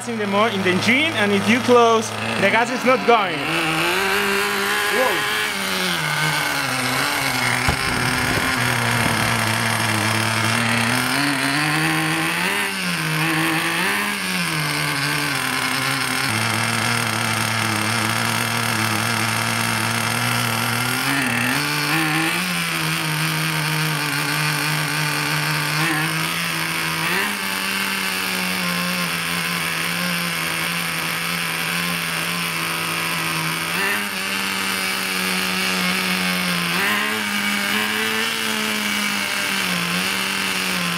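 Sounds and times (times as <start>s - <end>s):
engine revving: 0.0s - 40.9s
small two-stroke engine idling: 0.0s - 40.9s.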